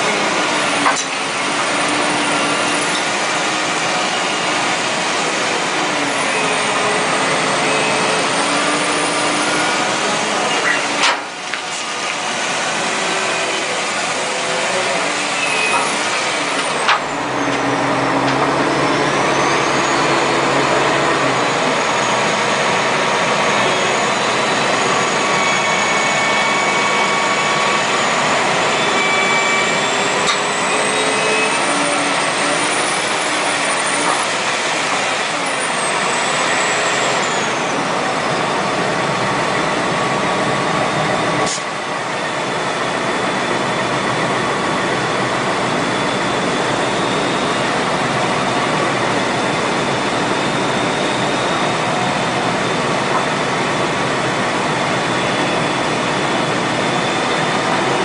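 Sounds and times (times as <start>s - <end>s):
diesel engine working: 0.0s - 58.0s.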